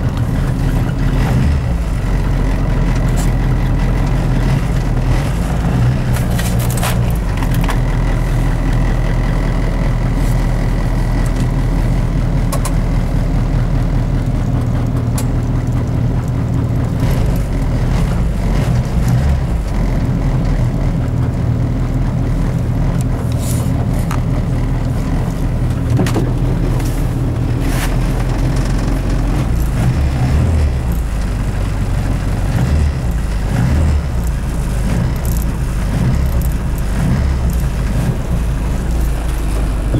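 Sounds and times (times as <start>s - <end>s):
car engine fast idling: 0.0s - 39.9s.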